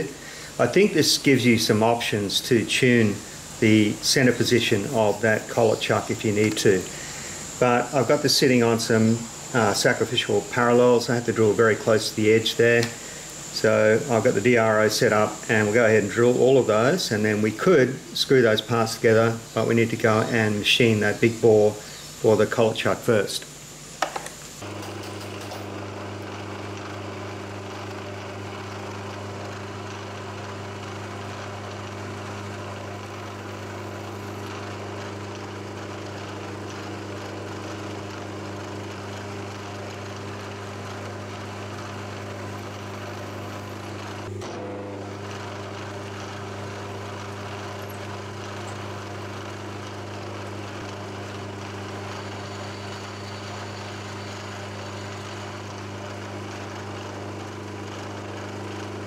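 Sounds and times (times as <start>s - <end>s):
milling machine spindle hum: 0.0s - 59.0s.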